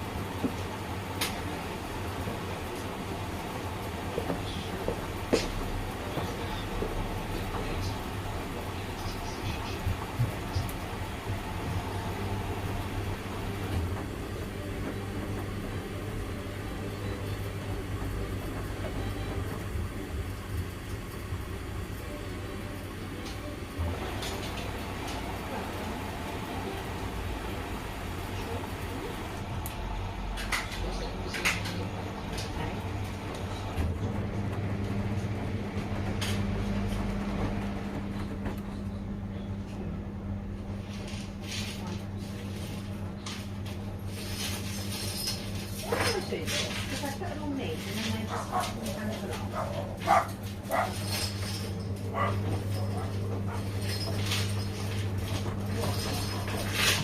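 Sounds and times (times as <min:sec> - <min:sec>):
washing machine rumbling: 0:00.0 - 0:57.0.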